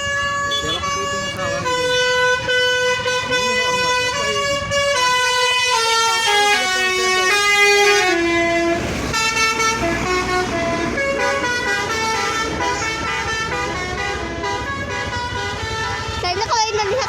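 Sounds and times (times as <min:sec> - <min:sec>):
musical air horn playing tune: 0:00.0 - 0:16.3.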